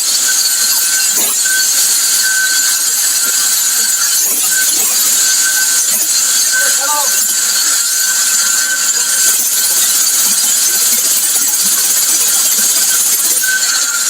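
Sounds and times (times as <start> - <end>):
power saw cutting concrete: 0.0 - 14.0.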